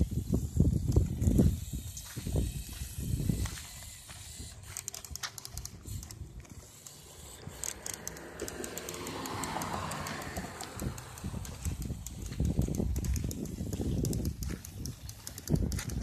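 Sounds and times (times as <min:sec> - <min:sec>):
hissing whir: 0:00.0 - 0:16.0
plastic gears clicking: 0:00.0 - 0:16.0
toy car electric motor hum: 0:00.0 - 0:16.0.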